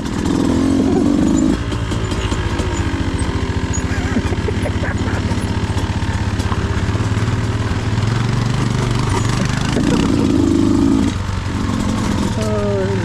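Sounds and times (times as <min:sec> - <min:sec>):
two-stroke dirt bike engine: 0:00.0 - 0:13.0.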